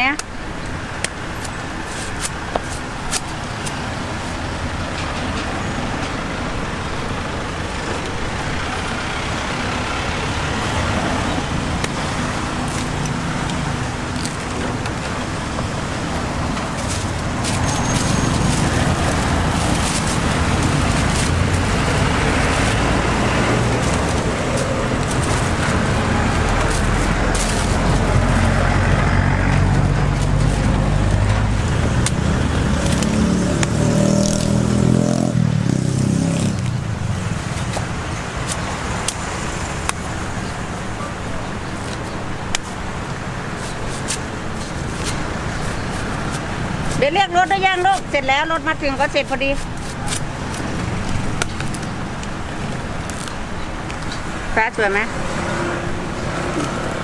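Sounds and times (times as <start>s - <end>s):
road traffic: 0.0s - 57.0s
vehicle engine humming: 0.0s - 57.0s.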